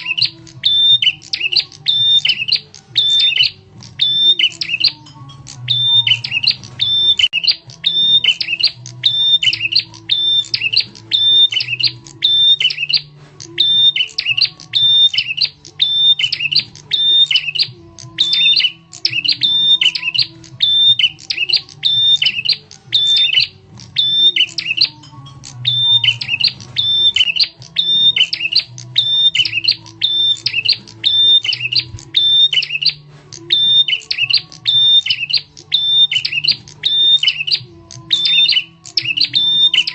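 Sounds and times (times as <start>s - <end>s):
prinia bird calling: 0.0s - 39.9s.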